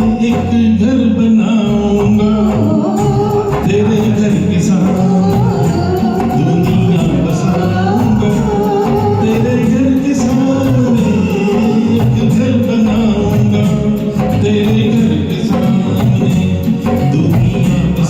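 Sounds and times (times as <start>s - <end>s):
karaoke backing music: 0.0s - 18.0s
person singing wordless melody: 0.0s - 18.0s.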